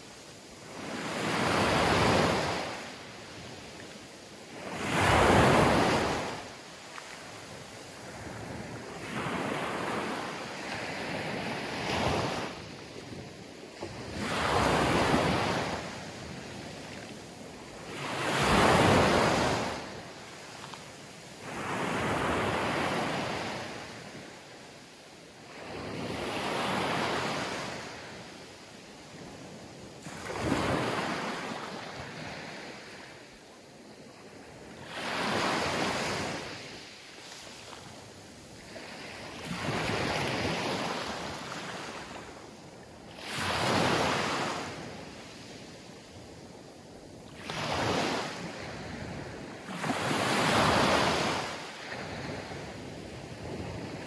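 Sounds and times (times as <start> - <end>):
waves washing over sand and pebbles: 0.0 - 54.0.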